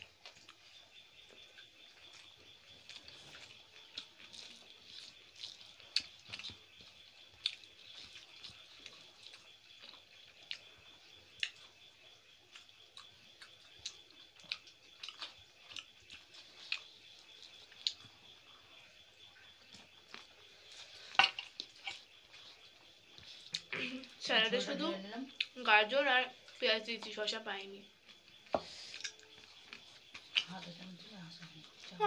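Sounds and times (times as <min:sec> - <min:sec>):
fingers mixing food on plates: 0:00.0 - 0:11.8, 0:12.4 - 0:24.2, 0:26.4 - 0:32.0
chewing and mouth smacks: 0:00.0 - 0:24.2, 0:25.3 - 0:25.6, 0:27.9 - 0:30.6.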